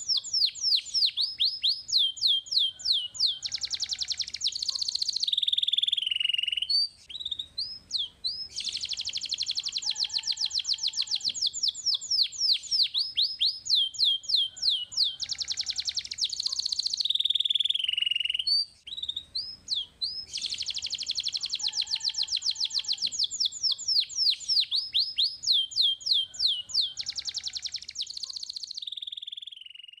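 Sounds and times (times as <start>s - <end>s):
canary singing trills: 0.0s - 30.0s.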